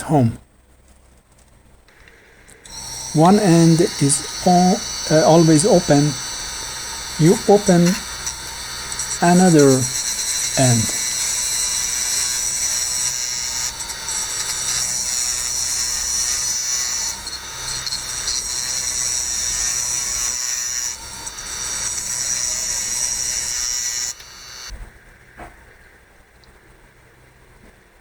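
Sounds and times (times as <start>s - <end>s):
rotary power tool whining: 1.9s - 24.8s.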